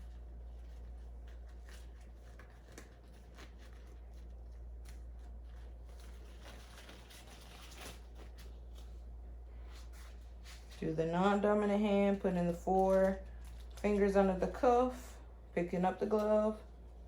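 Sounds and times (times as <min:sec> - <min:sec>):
gloves and paper wrapper rustling: 0:00.0 - 0:17.0
low steady hum: 0:00.0 - 0:17.0.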